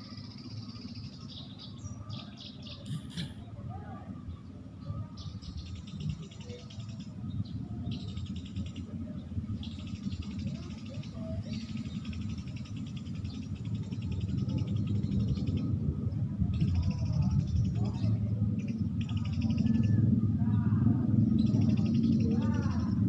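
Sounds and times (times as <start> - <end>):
sparrows chirping: 0.0 - 3.6, 4.3 - 15.8, 16.5 - 23.0
low steady rumble: 0.0 - 23.0.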